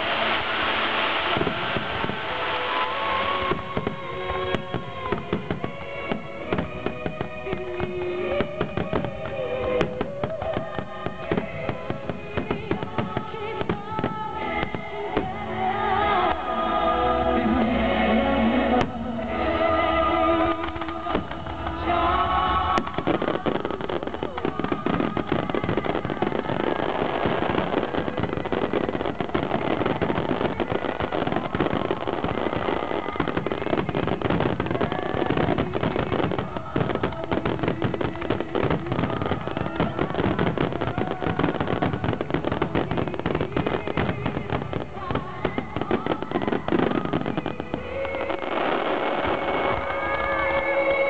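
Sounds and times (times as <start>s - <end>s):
fireworks bursting and crackling: 0.0s - 51.0s
fireworks whistling: 0.0s - 51.0s
music: 0.0s - 51.0s.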